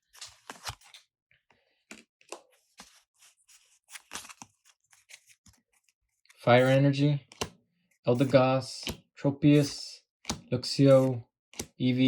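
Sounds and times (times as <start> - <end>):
cards rustling and tapping: 0.2 - 1.0, 1.8 - 6.0, 6.6 - 12.0.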